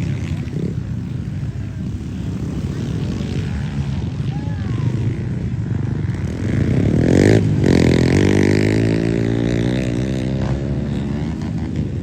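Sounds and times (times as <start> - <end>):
motor vehicle accelerating: 0.0 - 12.0.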